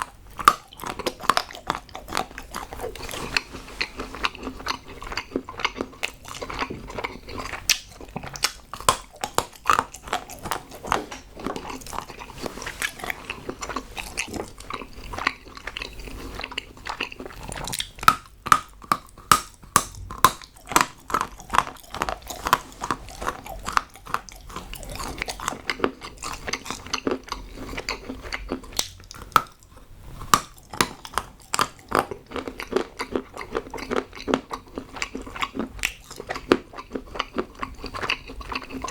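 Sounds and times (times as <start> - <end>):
chocolate crunching while chewed: 0.0 - 38.9.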